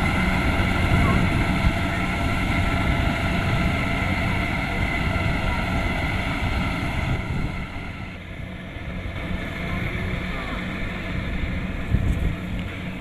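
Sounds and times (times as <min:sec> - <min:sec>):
steady high tone: 0:00.0 - 0:11.2
diesel engine drone: 0:00.0 - 0:13.0.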